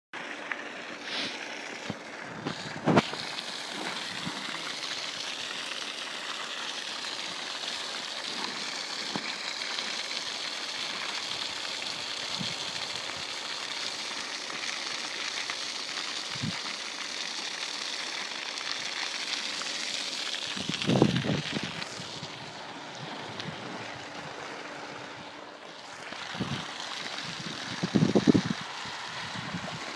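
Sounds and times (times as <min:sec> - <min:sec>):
hose water splashing on ice: 0:00.2 - 0:29.9.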